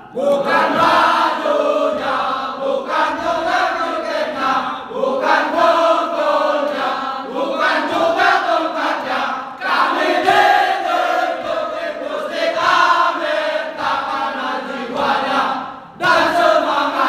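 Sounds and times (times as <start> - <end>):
young men singing in unison: 0.0 - 17.0.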